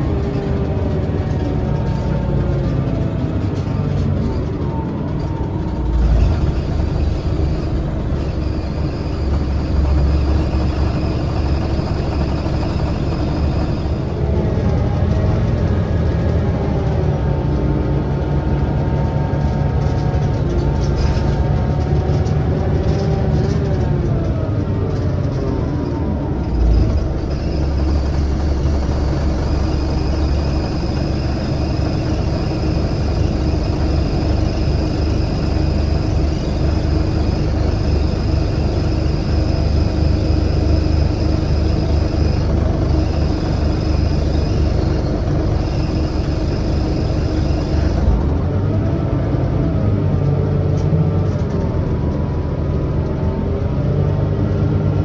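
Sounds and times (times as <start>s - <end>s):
bus engine drone: 0.0s - 55.0s
road rumble: 0.0s - 55.0s.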